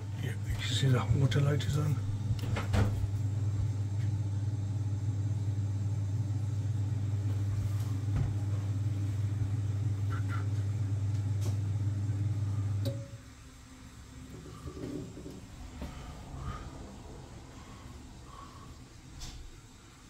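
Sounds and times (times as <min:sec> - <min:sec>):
boiler pump humming: 0:00.0 - 0:20.0.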